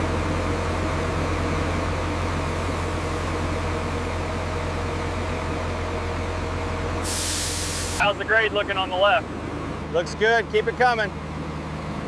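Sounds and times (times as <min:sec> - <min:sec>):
heavy machinery engine drone: 0:00.0 - 0:12.0.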